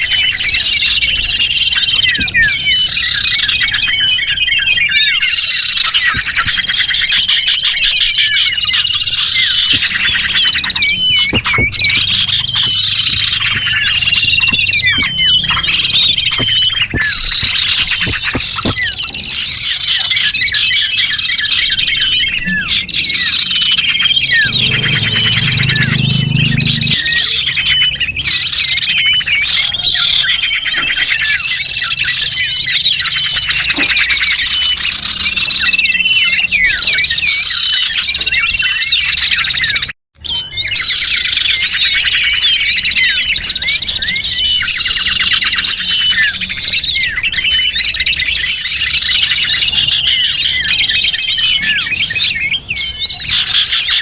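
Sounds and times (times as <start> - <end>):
high whistled bird notes: 0.0 - 54.0
small birds chirping and twittering: 0.0 - 54.0.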